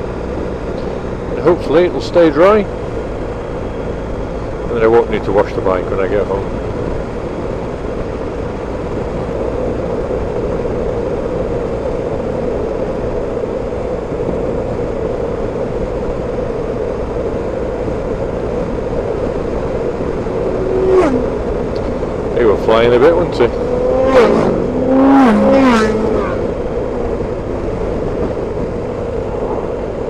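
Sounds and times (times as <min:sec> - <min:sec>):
motorcycle road noise: 0:00.0 - 0:30.0
wind noise: 0:00.0 - 0:30.0.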